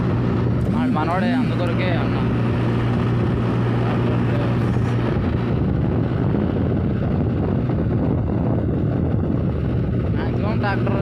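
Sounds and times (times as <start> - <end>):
tractor engine running: 0.0 - 10.1.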